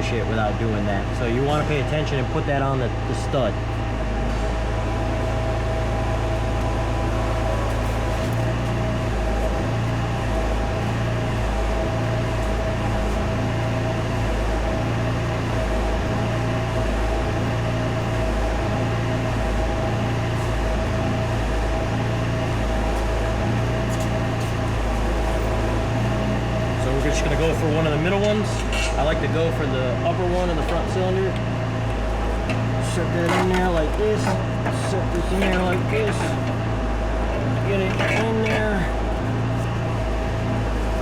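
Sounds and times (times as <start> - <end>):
motor humming with whine: 0.0 - 41.0.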